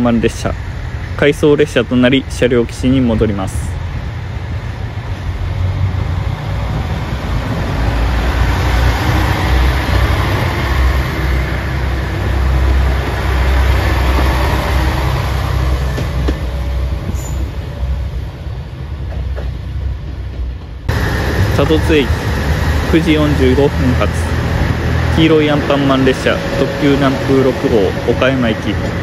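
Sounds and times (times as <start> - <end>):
diesel train engine rumble: 0.0 - 29.0
train wheels rolling on rails: 3.5 - 29.0.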